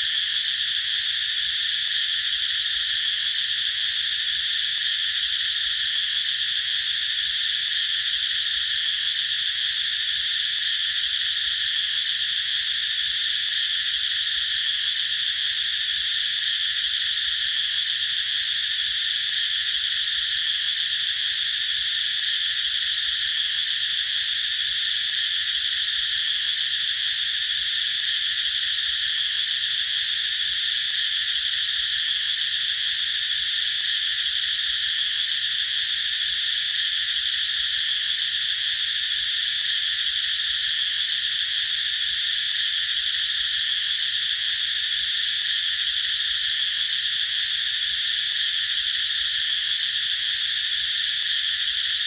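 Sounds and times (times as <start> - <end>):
cicadas droning: 0.0 - 52.0.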